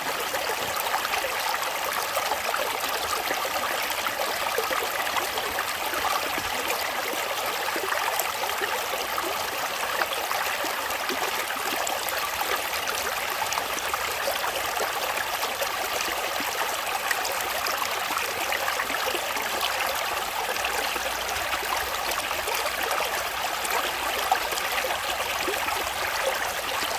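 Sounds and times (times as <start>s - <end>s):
stream flowing over rocks: 0.0s - 26.9s.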